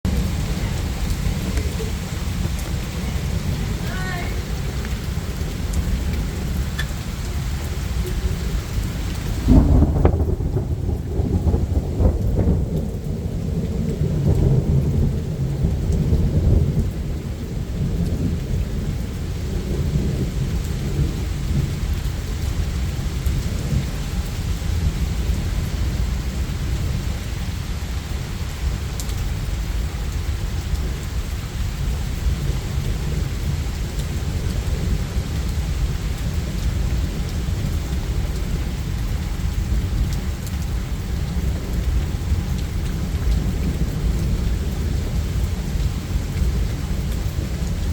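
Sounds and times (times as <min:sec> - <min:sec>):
steady rain falling: 0:00.0 - 0:47.9
thunder rumbling: 0:00.0 - 0:47.9.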